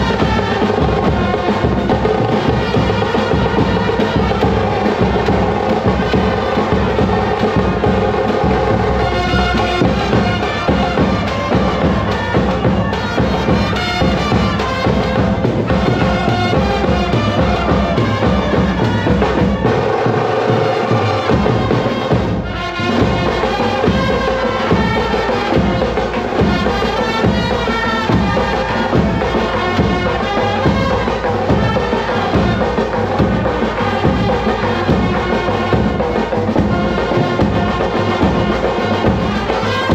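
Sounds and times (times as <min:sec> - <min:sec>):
brass band horns: 0:00.0 - 0:39.9
side drums: 0:00.0 - 0:39.9.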